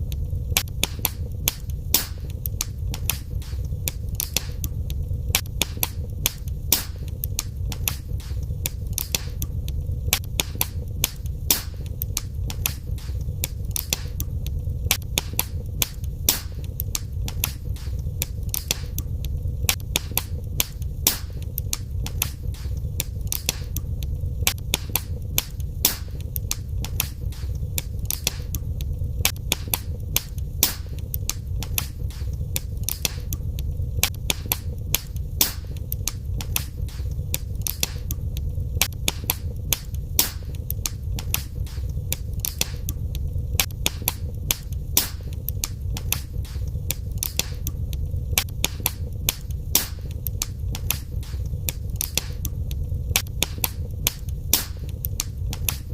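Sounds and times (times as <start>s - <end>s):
low rumble of burning: 0.0s - 55.9s
wood fire crackling and popping: 0.0s - 55.9s.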